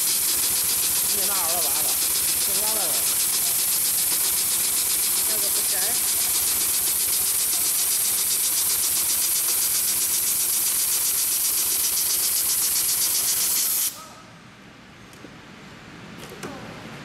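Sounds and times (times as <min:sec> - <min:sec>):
sewing machine stitching: 0:00.0 - 0:13.9.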